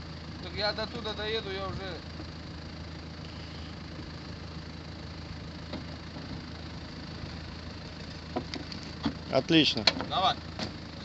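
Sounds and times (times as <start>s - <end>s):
suv engine idling: 0.0s - 11.0s.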